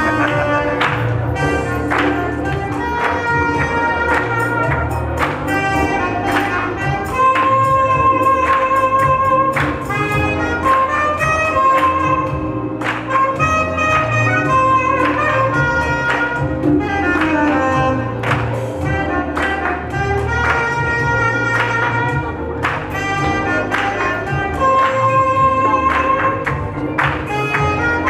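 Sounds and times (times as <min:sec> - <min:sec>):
backing beat and bass line: 0:00.0 - 0:28.0
soprano saxophone melody: 0:00.0 - 0:28.0.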